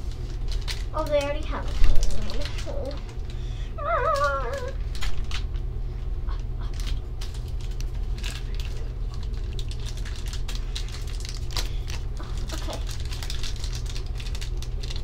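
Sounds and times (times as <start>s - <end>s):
foil bag crackling and tearing: 0.0s - 5.5s, 6.7s - 15.0s.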